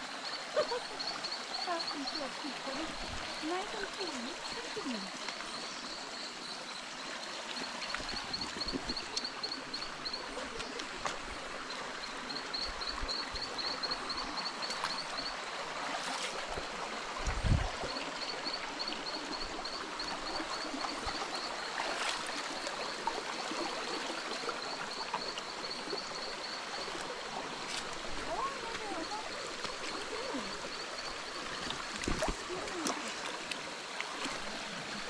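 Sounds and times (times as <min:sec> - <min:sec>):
stream water running over rocks: 0:00.0 - 0:35.0.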